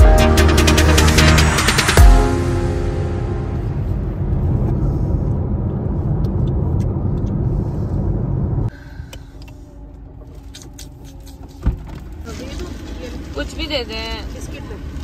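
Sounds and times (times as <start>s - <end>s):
car road and wind noise: 0.7s - 15.0s.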